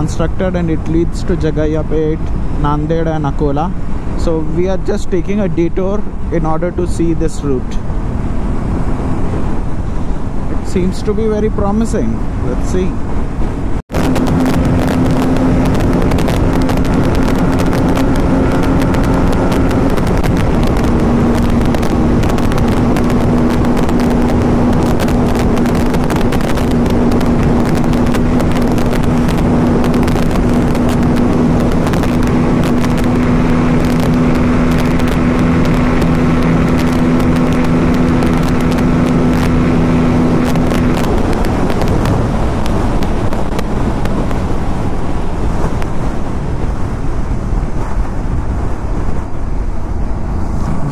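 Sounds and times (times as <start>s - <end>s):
motorcycle engine cruising: 0.0s - 50.9s
wind rush on microphone: 0.0s - 50.9s.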